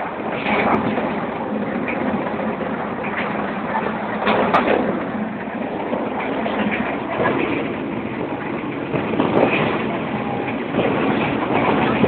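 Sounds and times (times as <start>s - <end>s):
train running noise inside carriage: 0.0s - 12.0s.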